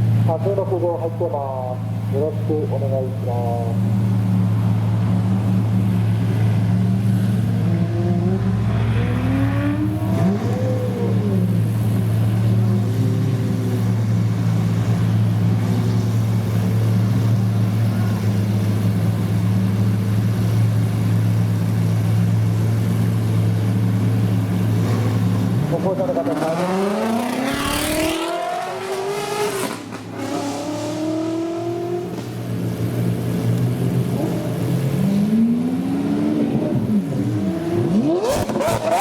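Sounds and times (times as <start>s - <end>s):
car engines droning: 0.0s - 39.0s
car engine revving: 1.1s - 39.0s.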